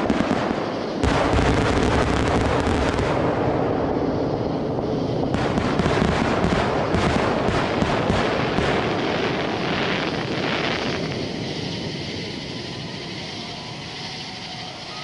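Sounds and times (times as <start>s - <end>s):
firework rumble and crackle: 0.0s - 15.0s
firework shell bursts: 0.0s - 15.0s.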